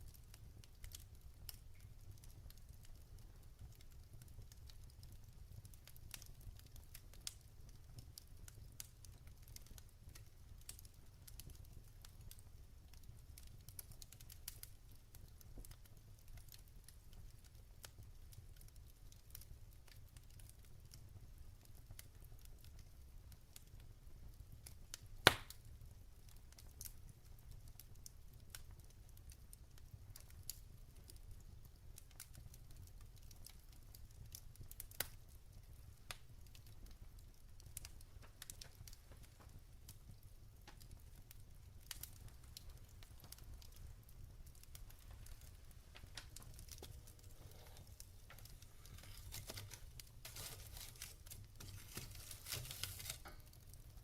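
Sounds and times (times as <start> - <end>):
logs crackling in fireplace: 0.0 - 54.0.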